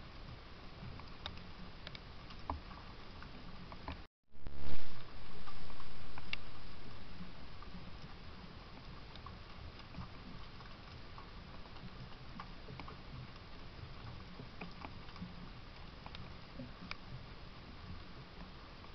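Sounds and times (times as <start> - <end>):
faint steady hiss: 0.0 - 18.9.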